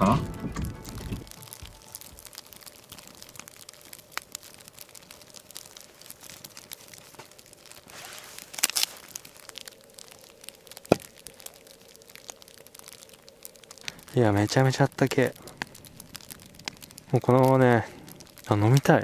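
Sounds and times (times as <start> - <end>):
crinkling and rustling handling: 0.1 - 19.0.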